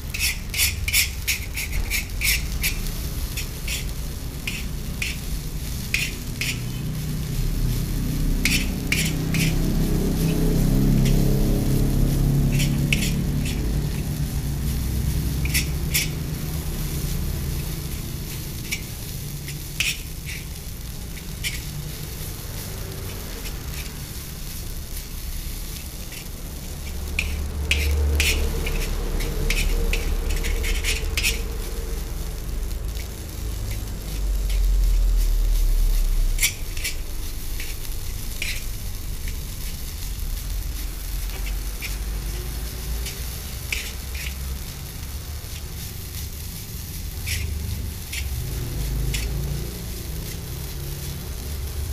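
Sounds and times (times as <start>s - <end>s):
metal spatula scraping wok: 0.0s - 51.9s
rice sizzling in a wok: 0.0s - 51.9s.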